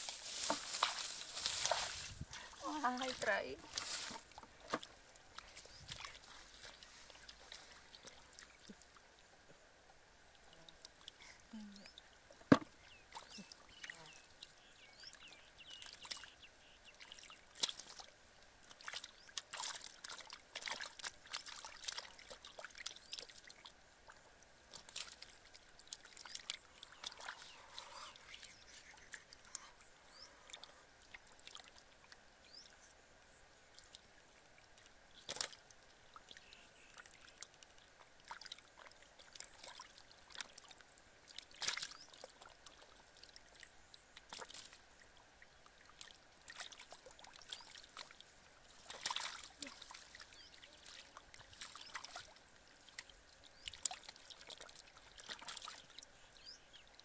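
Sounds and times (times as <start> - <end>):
muddy water splashing: 0.0 - 9.1, 10.7 - 32.7, 33.7 - 45.1, 45.8 - 56.2.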